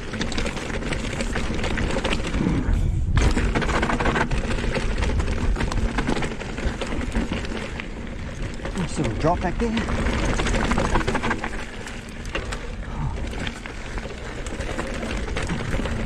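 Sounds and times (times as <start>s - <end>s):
tyres crunching over stones: 0.0s - 2.6s, 3.2s - 16.0s
bike chain and frame rattling: 0.0s - 16.0s
wind rumbling on microphone: 0.0s - 16.0s.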